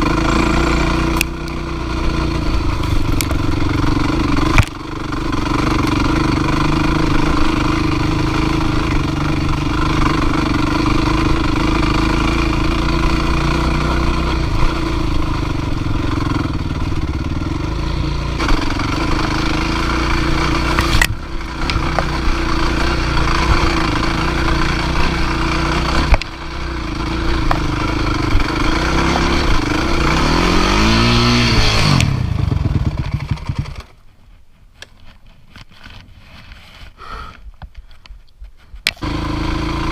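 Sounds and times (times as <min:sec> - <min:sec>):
dirt bike engine running: 0:00.0 - 0:34.1, 0:38.8 - 0:39.9.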